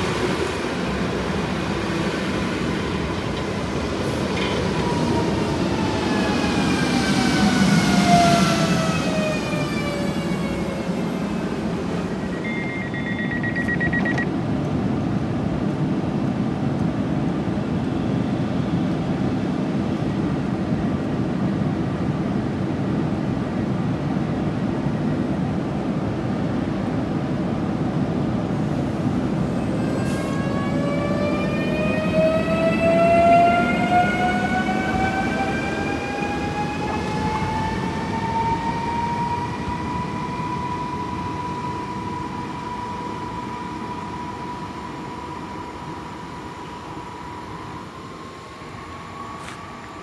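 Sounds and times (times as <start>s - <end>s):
train rumbling along track: 0.0s - 50.0s.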